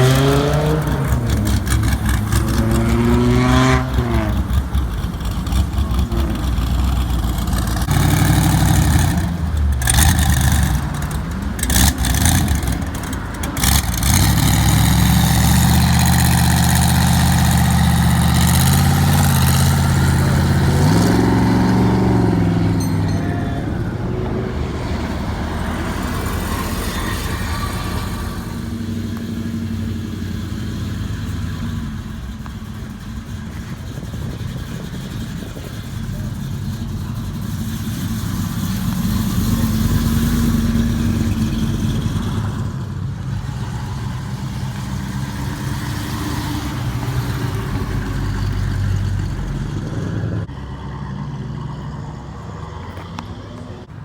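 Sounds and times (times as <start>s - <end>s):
vehicle engines running: 0.0s - 54.0s.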